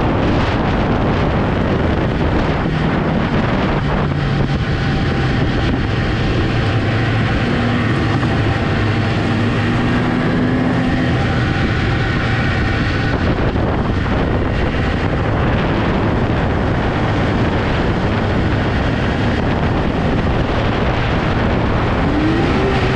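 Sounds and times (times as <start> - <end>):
snowmobile engine running: 0.0 - 22.9.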